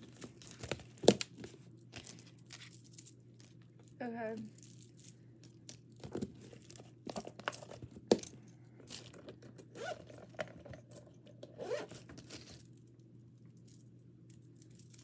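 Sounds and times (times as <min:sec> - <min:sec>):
small objects rustling: 0:00.0 - 0:15.0.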